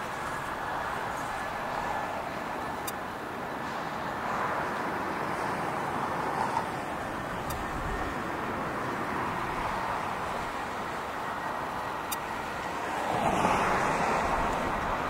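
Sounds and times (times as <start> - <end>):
distant jet engine rush: 0.0 - 15.0.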